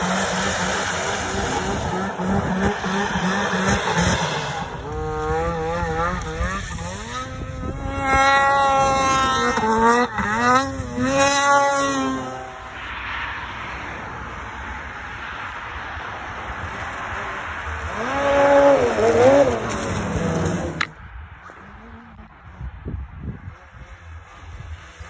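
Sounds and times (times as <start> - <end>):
snowmobile engine revving: 0.0 - 13.0, 16.4 - 25.0
snowmobile track skidding on pavement: 0.0 - 25.0.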